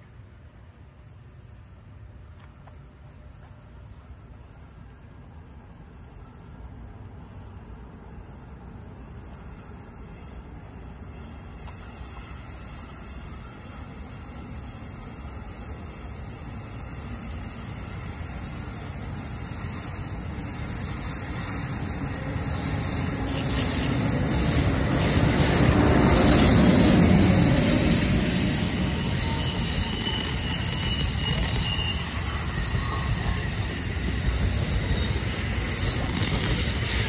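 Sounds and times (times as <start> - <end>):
train wheel and rail noise: 0.0 - 37.0.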